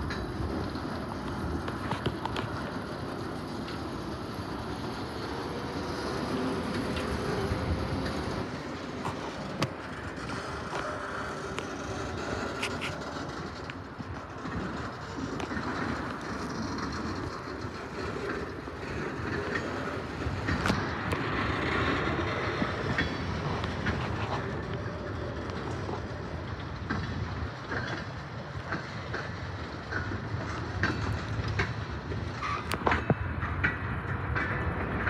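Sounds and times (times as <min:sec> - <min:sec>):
freight train cars rolling past: 0:00.0 - 0:35.0
wheels clanking over rail joints: 0:00.0 - 0:35.0.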